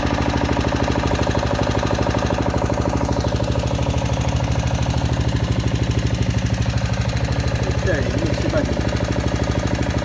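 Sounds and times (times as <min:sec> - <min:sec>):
small engine pulsing: 0:00.0 - 0:10.0.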